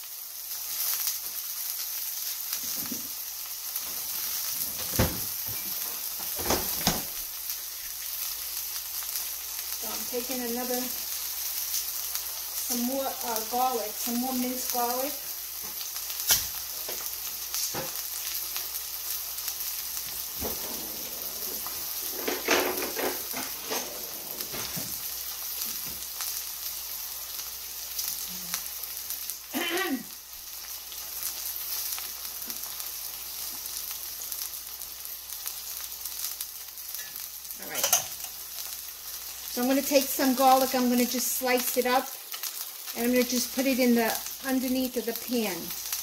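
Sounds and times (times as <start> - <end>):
steak sizzling in a skillet: 0.0 - 46.0.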